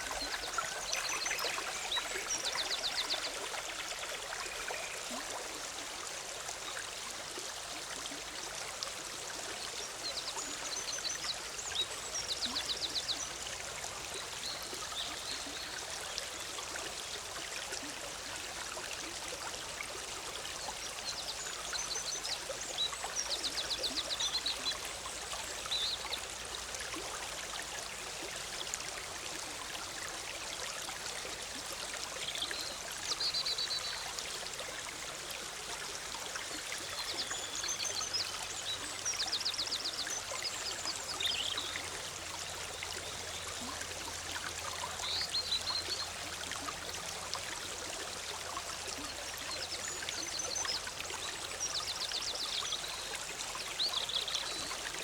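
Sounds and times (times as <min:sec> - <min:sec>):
stream bubbling and splashing: 0:00.0 - 0:55.0.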